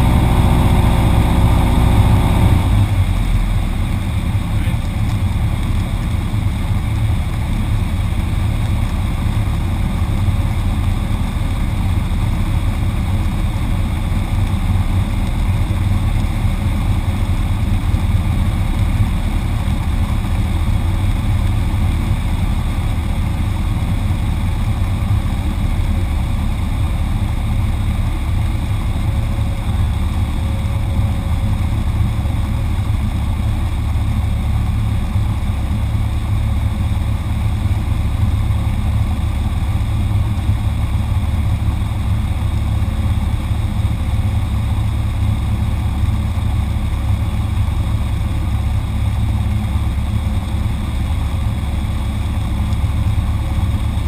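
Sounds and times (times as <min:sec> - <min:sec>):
aircraft engine idling: 0:00.0 - 0:54.0.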